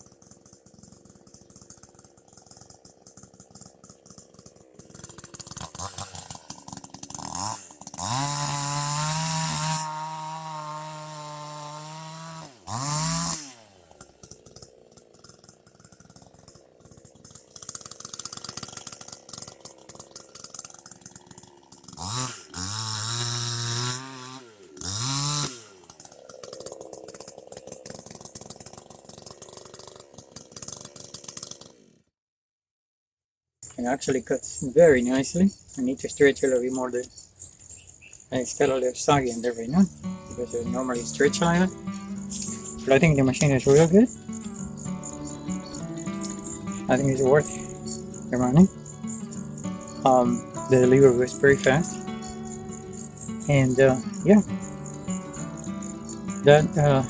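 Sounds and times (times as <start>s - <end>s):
chainsaw cutting: 0.0s - 32.1s, 33.7s - 57.0s
chainsaw revving: 0.0s - 32.1s, 33.7s - 57.0s
chainsaw idling with a rattle: 0.0s - 32.2s, 33.6s - 57.0s.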